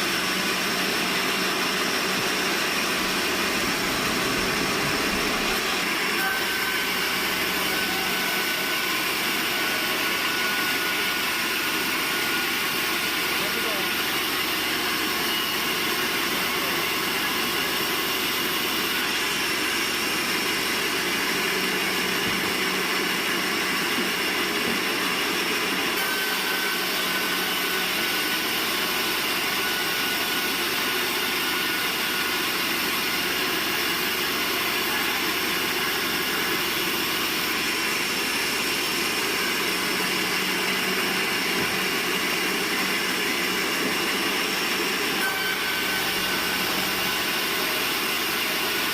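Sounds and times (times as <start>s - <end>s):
sawmill machinery whining: 0.0s - 48.9s.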